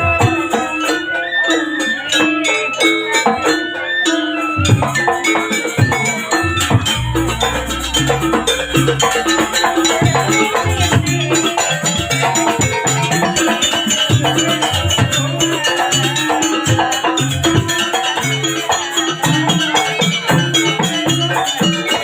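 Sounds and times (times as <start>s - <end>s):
percussion ensemble playing: 0.0s - 22.0s.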